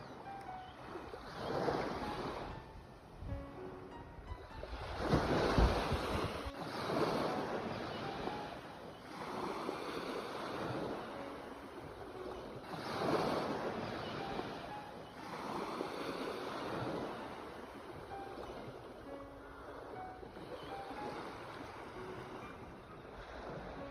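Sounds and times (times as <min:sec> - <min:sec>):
sea waves breaking on shore: 0:00.0 - 0:23.9.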